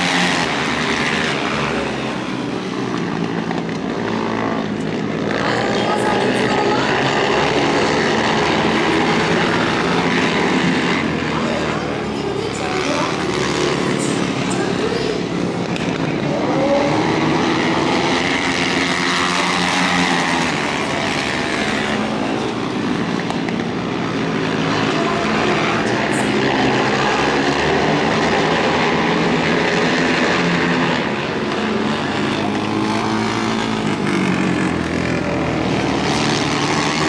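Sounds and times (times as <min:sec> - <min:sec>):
racing motorcycle engines: 0:00.0 - 0:37.0.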